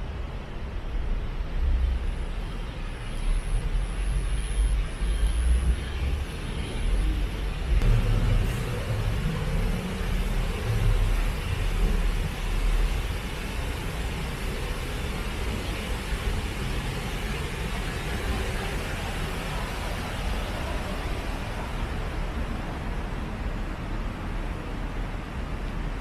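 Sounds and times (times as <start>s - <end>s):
traffic rumble: 0.0s - 26.0s
engine hum: 3.2s - 26.0s.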